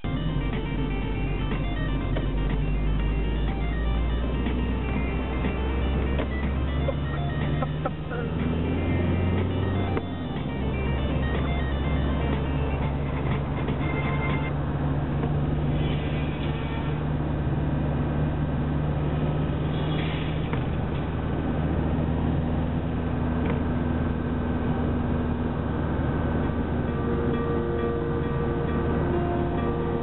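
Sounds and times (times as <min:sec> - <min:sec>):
car engine hum: 0:00.0 - 0:30.0
tyre and road noise: 0:00.0 - 0:30.0.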